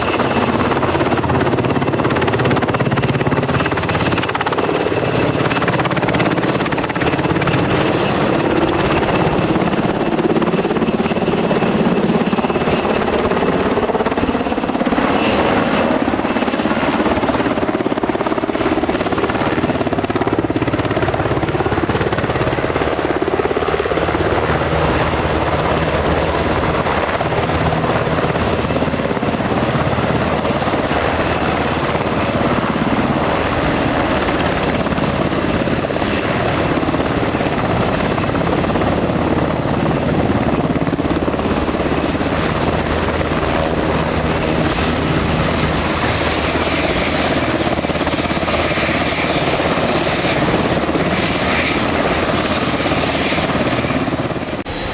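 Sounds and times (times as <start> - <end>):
helicopter rotor thrum: 0.0 - 54.9
high turbine whine: 0.0 - 54.9.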